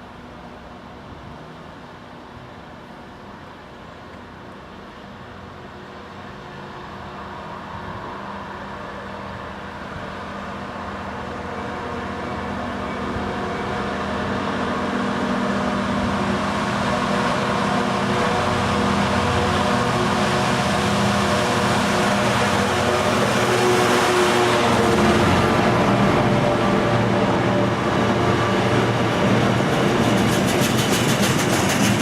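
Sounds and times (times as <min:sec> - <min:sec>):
diesel locomotive engine running: 0:04.8 - 0:32.0.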